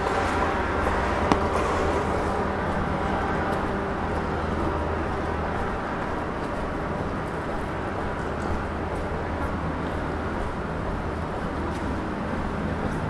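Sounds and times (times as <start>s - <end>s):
background noise wash: 0.0s - 13.0s
low mechanical hum: 0.0s - 13.0s.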